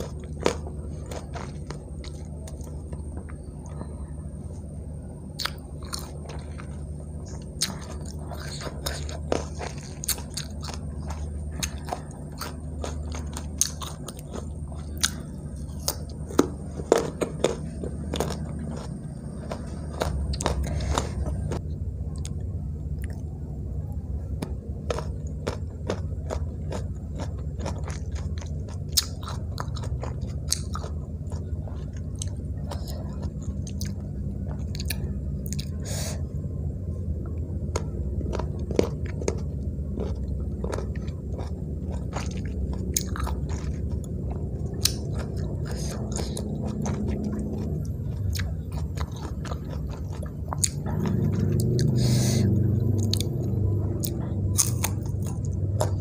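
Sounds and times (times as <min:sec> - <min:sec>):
crunchy chewing: 0:00.0 - 0:56.0
steady low hum: 0:00.0 - 0:56.0.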